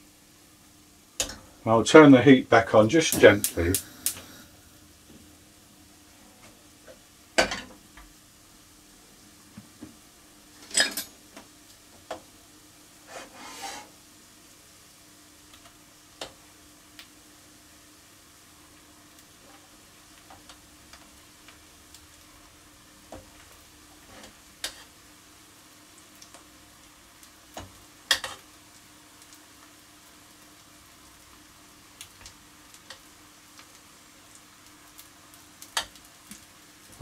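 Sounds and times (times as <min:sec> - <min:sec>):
pan hissing on low heat: 0:00.0 - 0:37.0.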